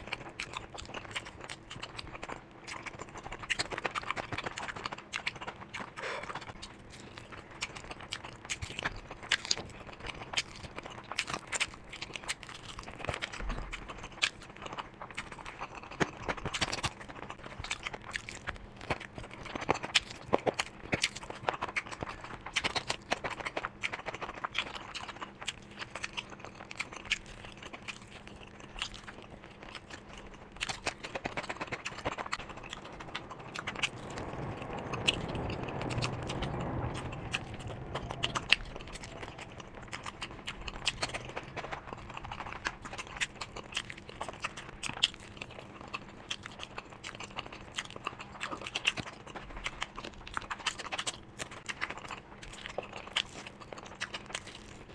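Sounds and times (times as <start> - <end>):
close-miked chewing and biting: 0.0 - 54.9.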